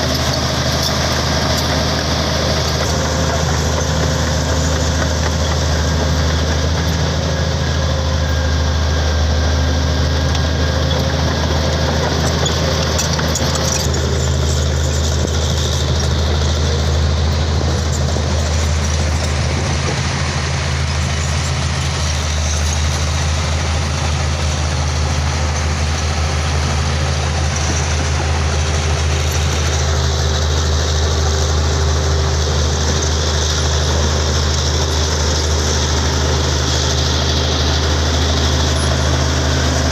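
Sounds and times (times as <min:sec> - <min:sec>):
bulldozer diesel engine humming: 0:00.0 - 0:39.9.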